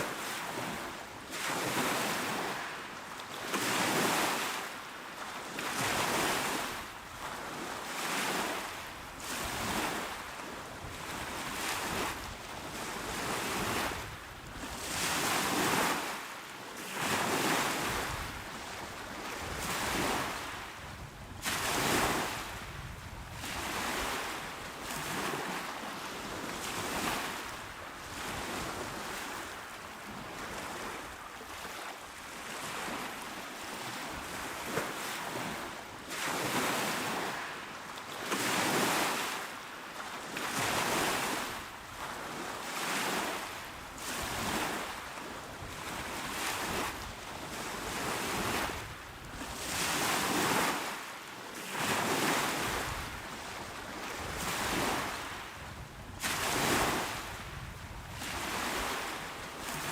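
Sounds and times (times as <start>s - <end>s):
small waves breaking on shore: 0.0s - 59.9s.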